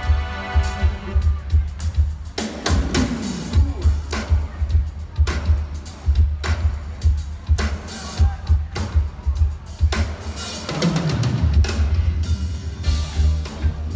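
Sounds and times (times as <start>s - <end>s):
live rock band playing: 0.0s - 13.9s.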